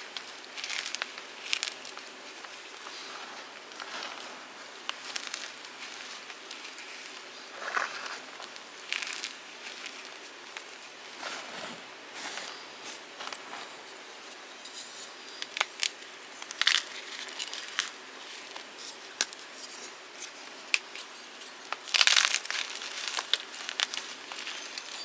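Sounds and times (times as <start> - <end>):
chalk blocks crunching: 0.1 - 12.6, 14.8 - 25.0.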